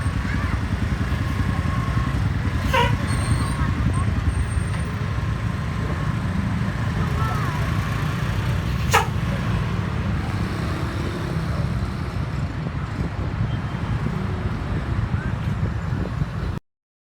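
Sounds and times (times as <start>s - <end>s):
vehicle engine and road noise: 0.0s - 16.6s.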